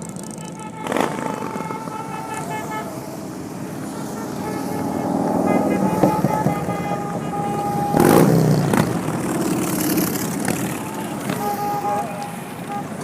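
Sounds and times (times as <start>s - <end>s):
motorcycle running: 0.0s - 13.0s.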